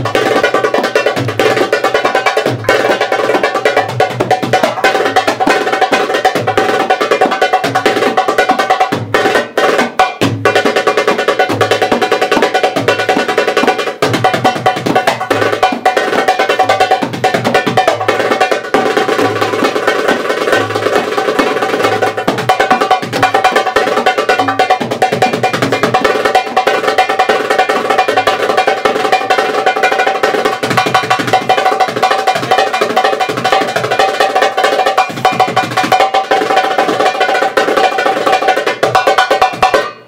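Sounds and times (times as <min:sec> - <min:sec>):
goblet drum solo: 0:00.0 - 0:40.0.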